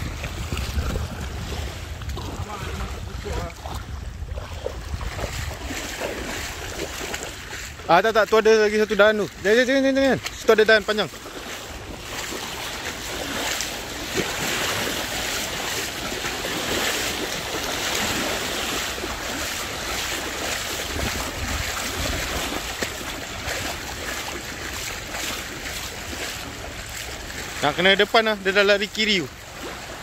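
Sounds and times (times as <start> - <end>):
wind buffeting microphone: 0.0 - 7.9, 11.2 - 27.6
water splashing from wading: 0.0 - 30.0.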